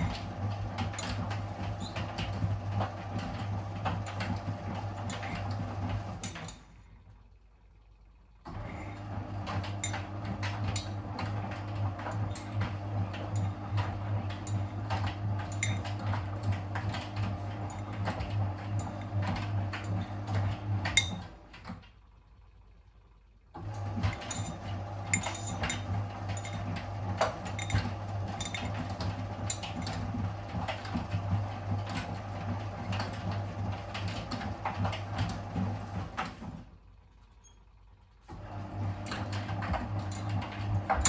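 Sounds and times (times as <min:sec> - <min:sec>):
items clattering in washer drum: 0:00.0 - 0:06.8, 0:08.4 - 0:22.0, 0:23.6 - 0:36.8, 0:38.2 - 0:41.0
washing machine motor hum: 0:00.0 - 0:41.0.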